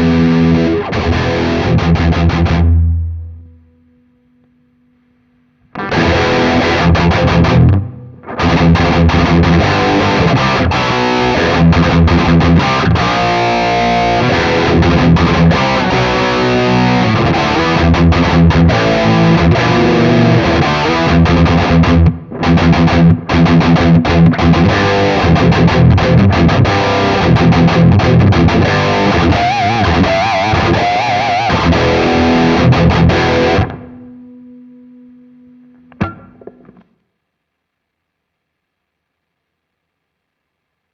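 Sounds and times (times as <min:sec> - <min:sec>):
distorted electric guitar chords: 0:00.0 - 0:36.9.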